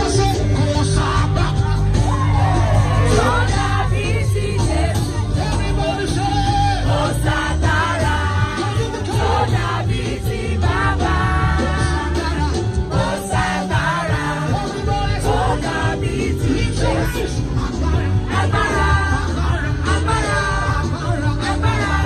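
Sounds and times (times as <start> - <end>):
crowd singing along: 0.0 - 22.0
loud music with heavy bass: 0.0 - 22.0.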